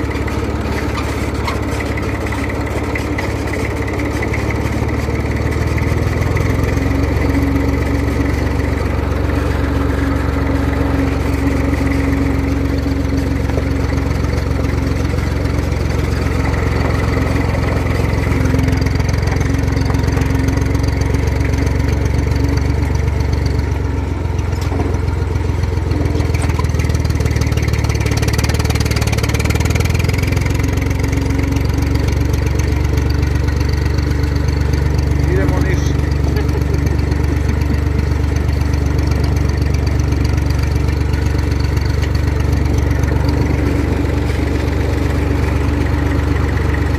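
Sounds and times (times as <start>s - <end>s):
small tractor engine running: 0.0s - 46.9s.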